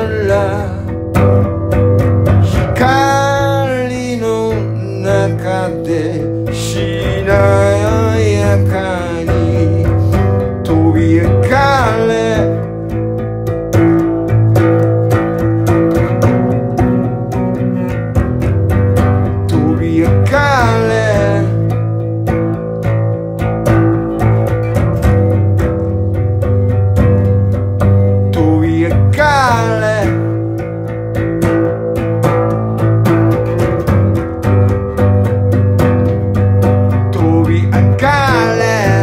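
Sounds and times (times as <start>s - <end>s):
guitar playing: 0.0s - 39.0s
steady low bass: 0.0s - 39.0s.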